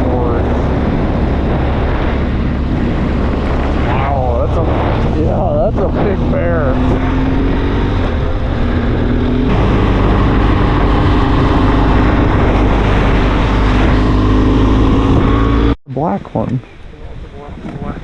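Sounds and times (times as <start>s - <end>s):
car engine hum: 0.0s - 15.8s
road noise: 0.0s - 18.0s.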